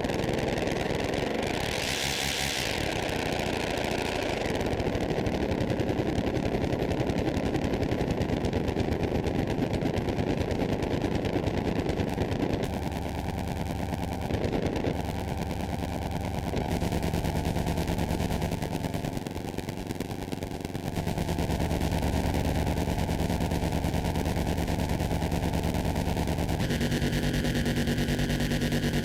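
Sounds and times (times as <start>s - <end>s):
synthesizer noisy drone: 0.0s - 6.8s, 12.1s - 29.0s.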